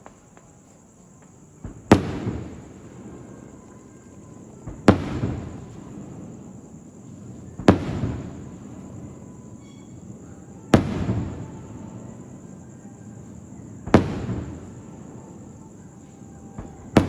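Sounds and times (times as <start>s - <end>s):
small fireworks pop: 0.0s - 17.0s
fireworks bangs: 1.6s - 17.0s.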